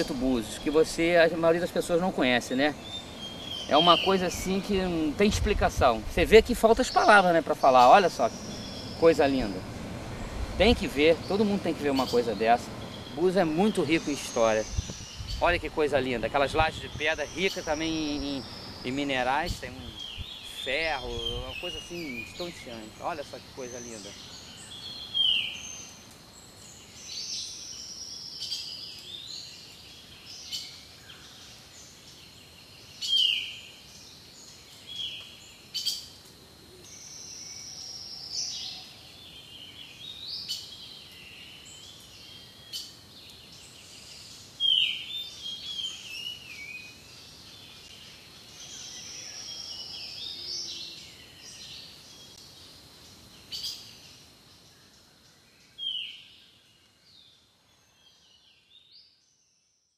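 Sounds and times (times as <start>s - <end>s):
bird chirps: 0.0s - 36.2s, 36.8s - 59.7s
birds calling: 0.0s - 57.4s
low background hiss: 0.0s - 59.4s.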